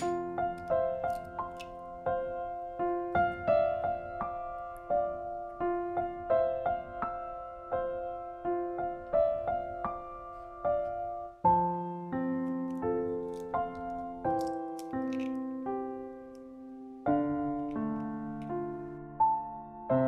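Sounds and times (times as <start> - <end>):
gentle piano notes: 0.0 - 20.0.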